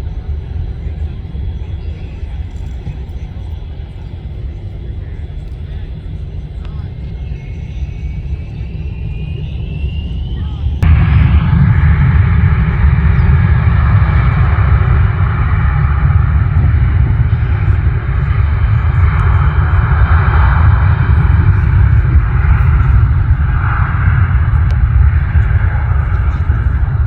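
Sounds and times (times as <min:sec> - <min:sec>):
jet engine rumble and hiss: 0:00.0 - 0:27.0.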